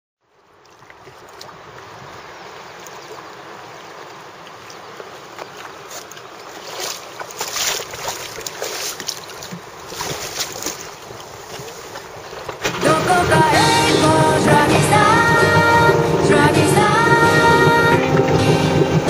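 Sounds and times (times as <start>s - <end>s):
rush of water and wind: 0.2s - 19.0s
water splashes: 0.2s - 19.0s.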